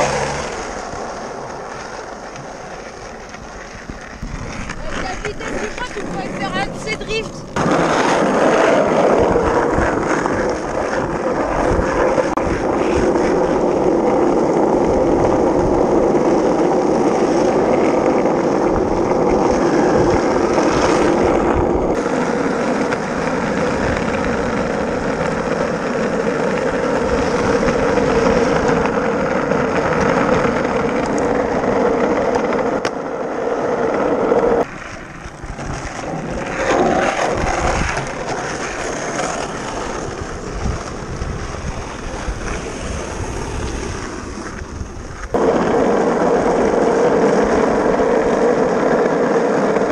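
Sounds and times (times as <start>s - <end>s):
skateboard wheels rolling on asphalt: 0.0s - 49.9s.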